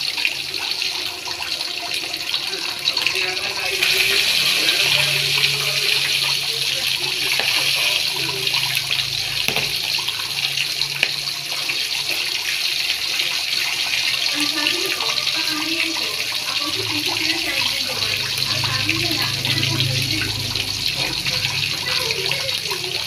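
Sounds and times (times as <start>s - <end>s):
fish frying in hot oil: 0.0s - 23.0s.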